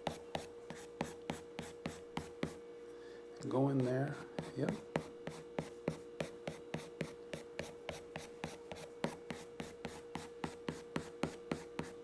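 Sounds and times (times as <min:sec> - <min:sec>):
pencil strokes on paper: 0:00.0 - 0:02.6, 0:03.7 - 0:12.0.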